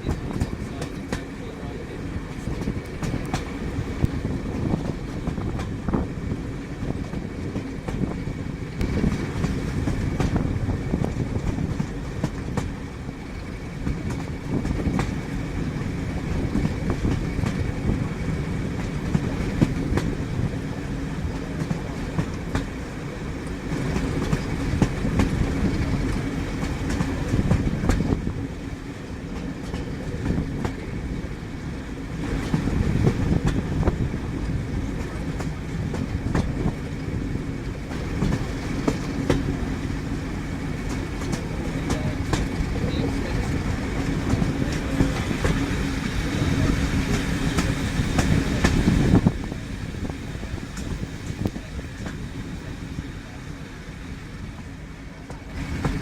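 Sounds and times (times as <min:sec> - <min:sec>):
wheels clicking over rail joints: 0:00.0 - 0:53.6
train rumbling: 0:00.0 - 0:56.0.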